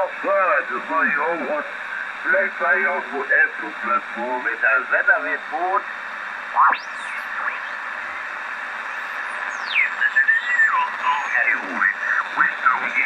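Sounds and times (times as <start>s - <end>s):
radio band noise hissing: 0.0s - 13.0s.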